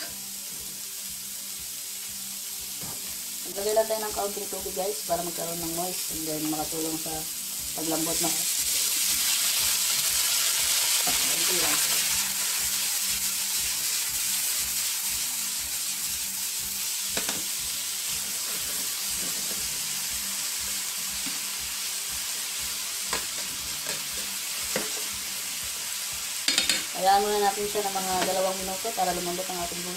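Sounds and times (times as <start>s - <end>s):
water sizzling in frying pan: 0.0s - 29.9s.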